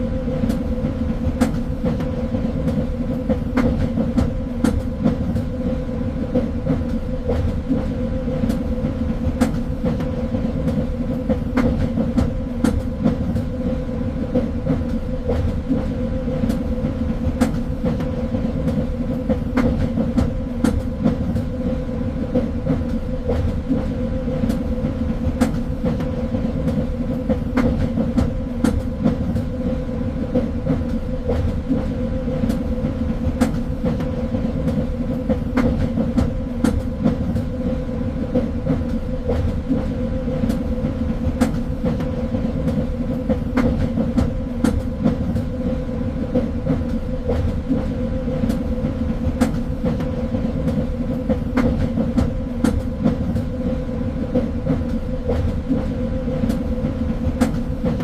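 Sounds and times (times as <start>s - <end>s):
train rumbling on track: 0.0s - 58.0s.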